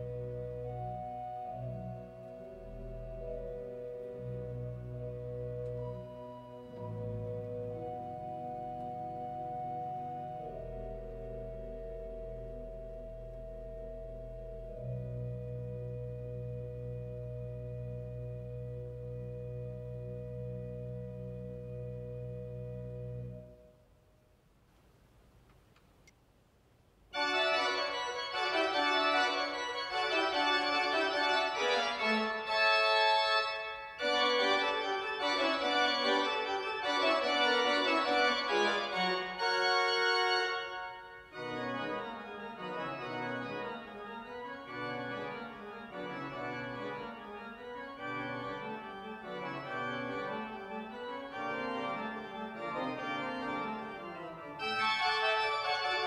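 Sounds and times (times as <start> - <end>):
pipe organ chords: 0.0 - 23.8, 27.1 - 56.0.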